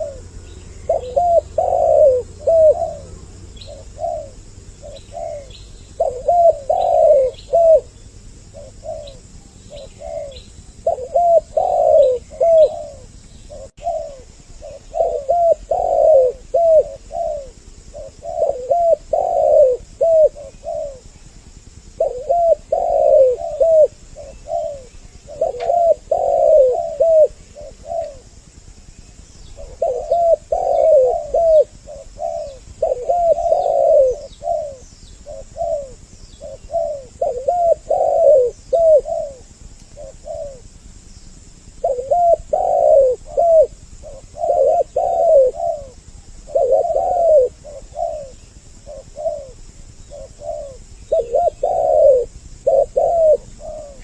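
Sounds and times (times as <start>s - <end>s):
doves cooing: 0.0s - 54.0s
faint small bird chirps: 0.0s - 54.0s.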